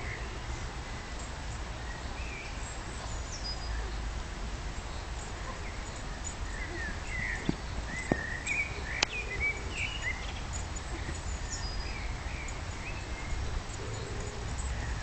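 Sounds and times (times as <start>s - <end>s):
small birds chirping: 1.0s - 15.0s.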